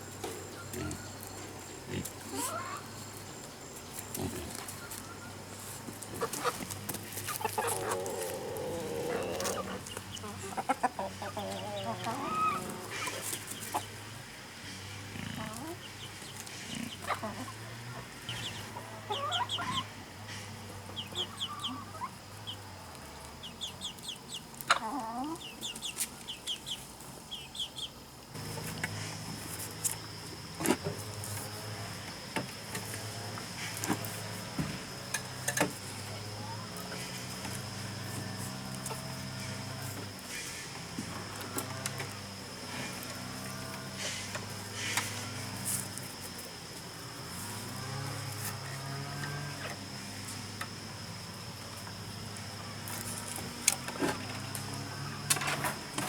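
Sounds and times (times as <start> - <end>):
chickens clucking: 0.0 - 51.2.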